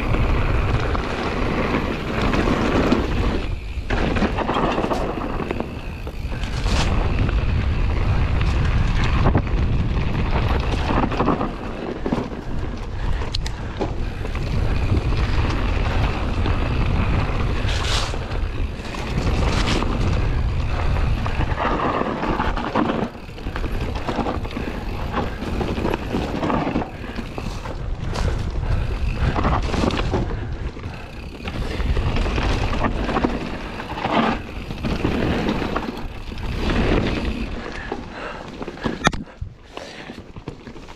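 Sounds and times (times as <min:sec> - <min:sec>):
wind rumble on microphone: 0:00.0 - 0:39.7
bicycle tyre noise: 0:00.0 - 0:40.9
bike knocking and rattling: 0:00.0 - 0:40.9.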